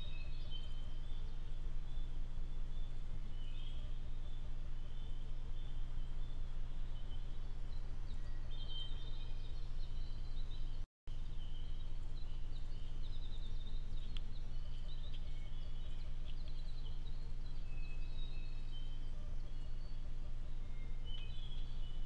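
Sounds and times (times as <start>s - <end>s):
faint high chirping calls: 0.0s - 22.0s.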